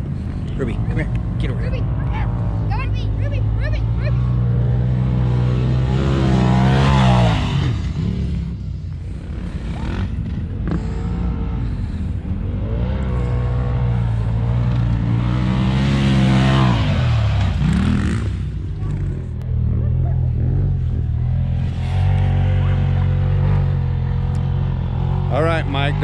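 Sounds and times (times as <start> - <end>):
engine revving high: 0.6 - 8.6, 9.3 - 26.0.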